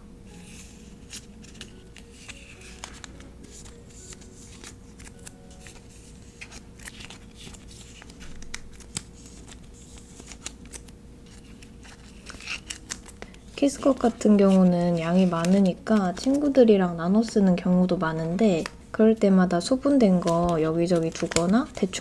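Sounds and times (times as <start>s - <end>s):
plastic sheets rustling and clicking: 1.0s - 17.5s, 18.2s - 18.8s, 19.6s - 22.0s.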